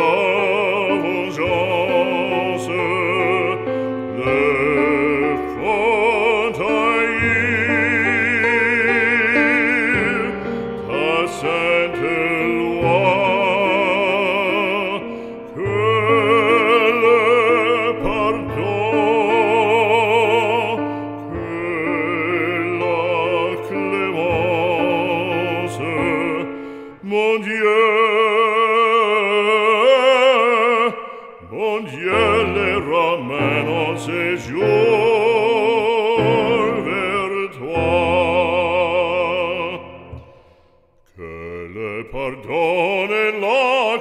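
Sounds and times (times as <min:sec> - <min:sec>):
operatic singing: 0:00.0 - 0:44.0.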